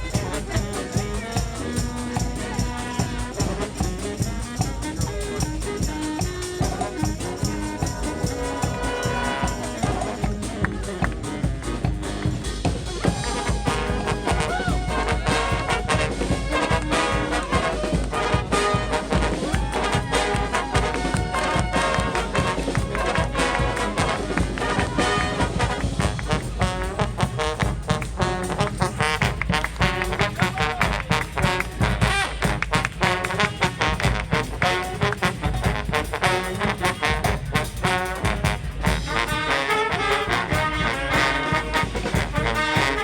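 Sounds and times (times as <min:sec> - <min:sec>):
brass band horns: 0:00.0 - 0:43.0
drum strikes: 0:00.0 - 0:43.0.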